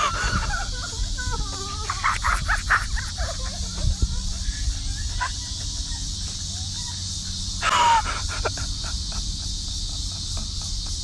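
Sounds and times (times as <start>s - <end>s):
high-pitched insect buzz: 0.0s - 11.0s
wind rumbling on microphone: 0.0s - 11.0s.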